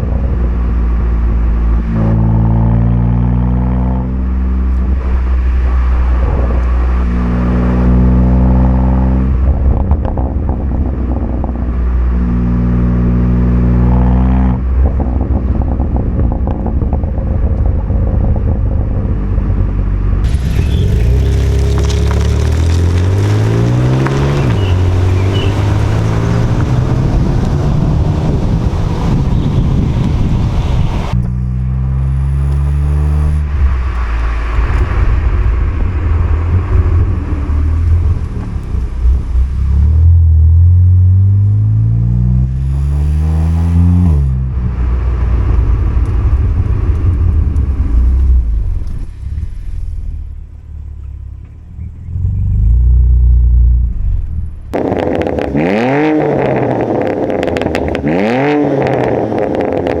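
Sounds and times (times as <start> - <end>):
car engine revving: 0.0 - 60.0.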